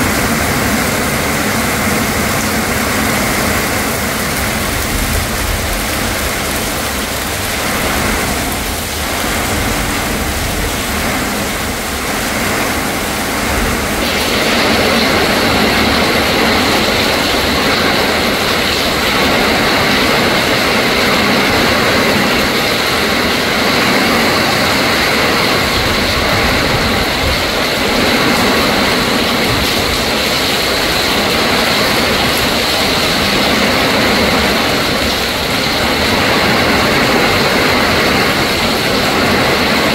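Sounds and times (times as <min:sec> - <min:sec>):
heavy rain on leaves: 0:00.0 - 0:39.9
storm wind through trees: 0:00.0 - 0:39.9.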